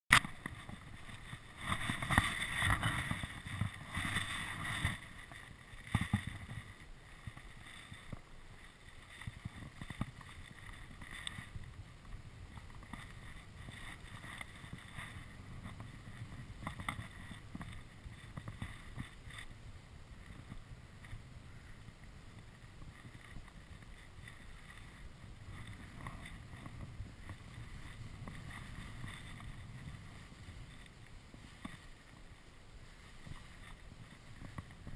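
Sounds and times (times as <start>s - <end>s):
skis sliding through snow: 0.1s - 34.9s
wind buffeting microphone: 0.1s - 34.9s.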